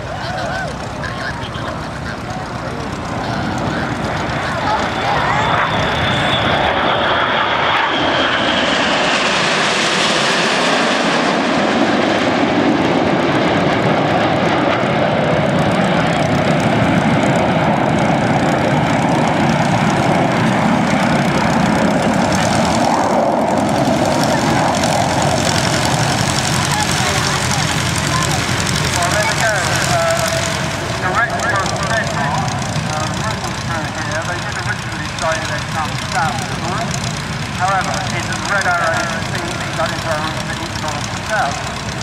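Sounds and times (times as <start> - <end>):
jets flying past: 0.0 - 42.0.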